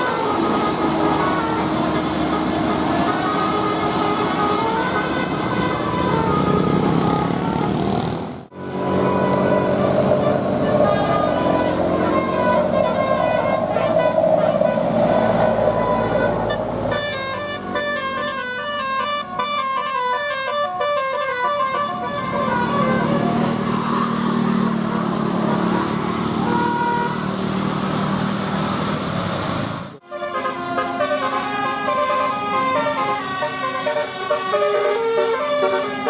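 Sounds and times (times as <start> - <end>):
bus horns playing tunes: 0.0 - 28.0, 30.0 - 36.0
vehicle noise: 0.0 - 36.0.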